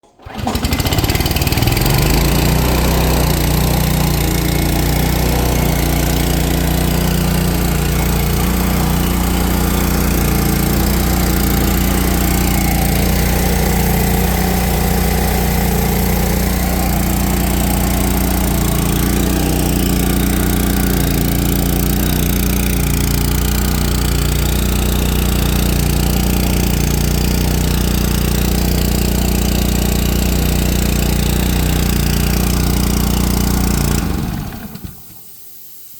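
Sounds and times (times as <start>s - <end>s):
air compressor running: 0.0s - 35.7s.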